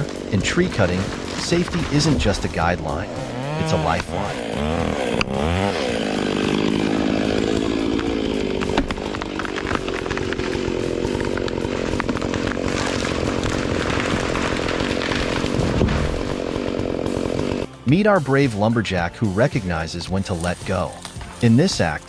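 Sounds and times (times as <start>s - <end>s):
chainsaw buzzing: 0.0s - 22.0s.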